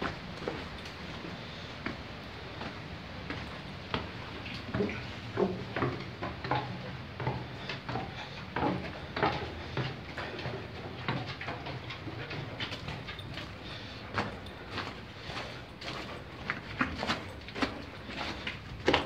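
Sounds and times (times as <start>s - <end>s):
footsteps on rocky floor: 0.0s - 19.0s.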